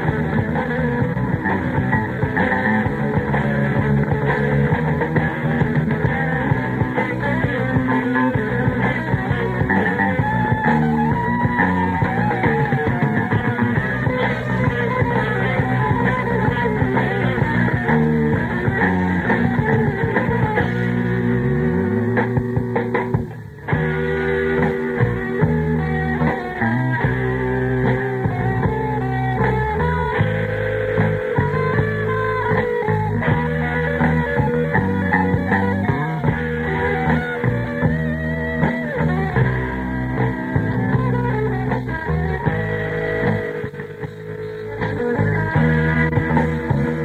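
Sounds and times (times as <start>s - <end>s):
electric guitar: 0.0s - 47.0s
rock band playing live: 0.0s - 47.0s.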